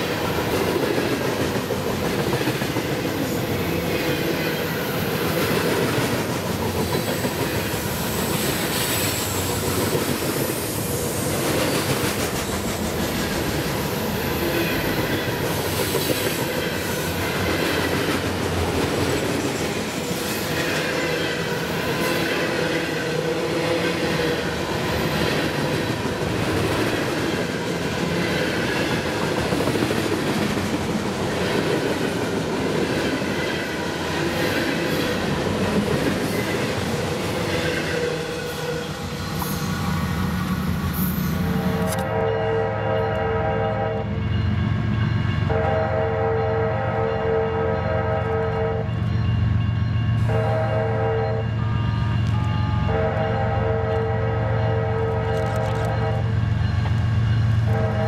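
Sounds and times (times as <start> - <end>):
train wheels rumbling on rails: 0.0 - 42.2, 48.1 - 58.0.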